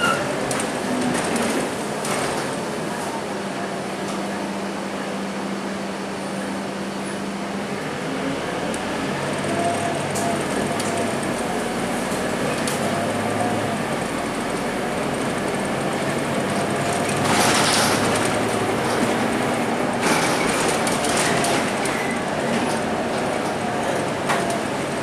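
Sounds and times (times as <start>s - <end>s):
bus diesel engine running: 0.0s - 25.0s
road noise: 0.0s - 25.0s.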